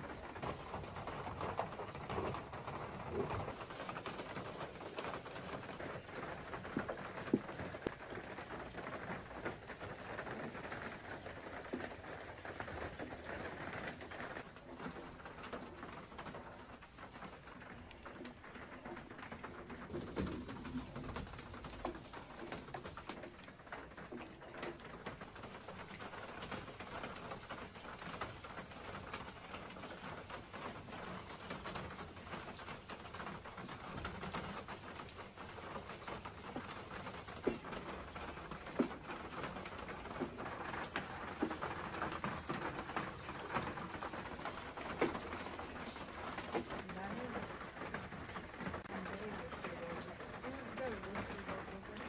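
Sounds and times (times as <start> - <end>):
light rain pattering: 0.0 - 52.0.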